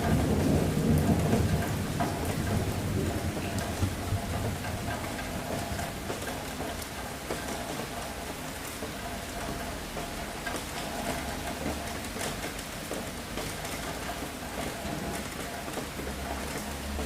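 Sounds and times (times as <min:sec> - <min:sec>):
raindrops spattering close by: 0:00.0 - 0:17.0
steady rain falling: 0:00.0 - 0:17.0.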